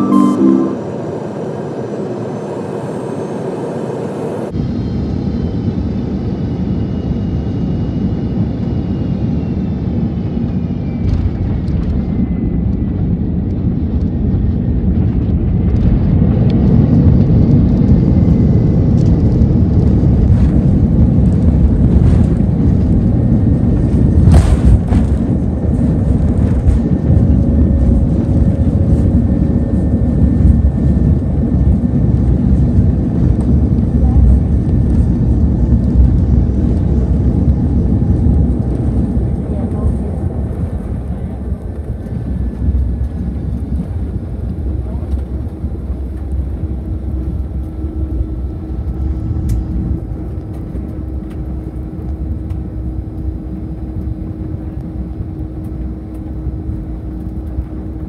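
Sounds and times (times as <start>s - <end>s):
jet engines whining and roaring: 0.0s - 58.0s.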